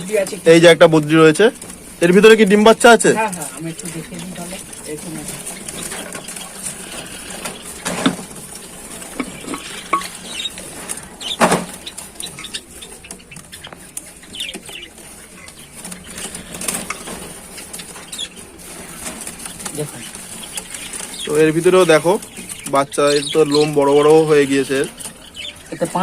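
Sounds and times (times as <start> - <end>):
caged birds chirping: 0.0 - 26.0.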